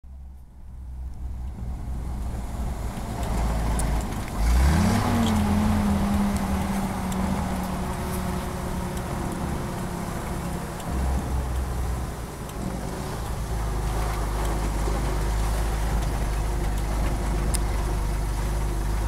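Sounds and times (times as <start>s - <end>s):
tyre and road noise: 0.0s - 19.0s
truck engine running: 0.1s - 19.0s.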